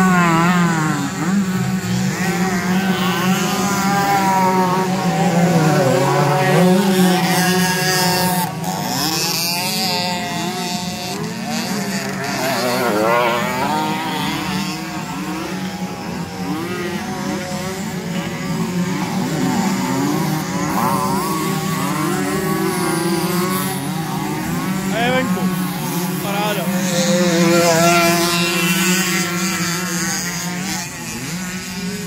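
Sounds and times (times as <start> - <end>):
small bike engines revving: 0.0 - 32.0.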